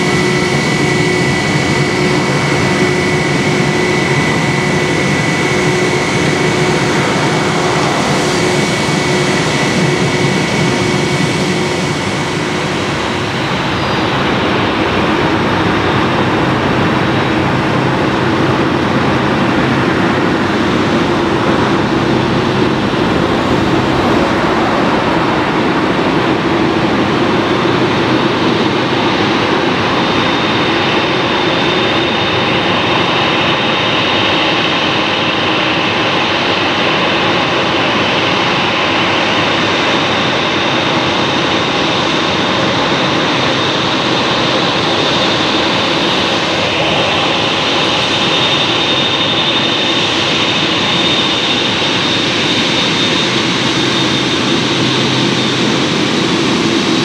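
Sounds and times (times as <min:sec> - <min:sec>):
jet engines running: 0:00.0 - 0:57.0
thin high engine whine: 0:00.0 - 0:57.0.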